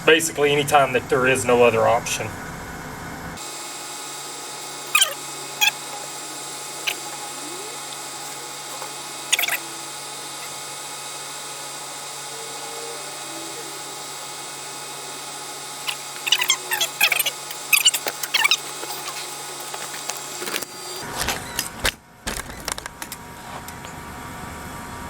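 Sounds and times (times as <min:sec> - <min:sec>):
machine humming: 0:00.0 - 0:21.2.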